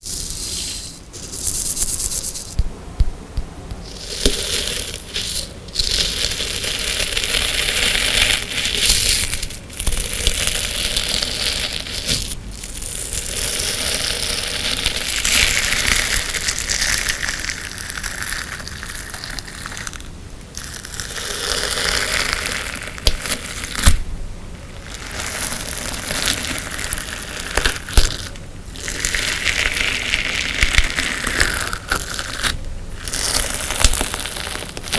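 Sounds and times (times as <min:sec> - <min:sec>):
crunchy slime crackling: 0:00.0 - 0:02.8, 0:03.7 - 0:34.9
slime popping: 0:03.7 - 0:24.0, 0:24.7 - 0:34.9.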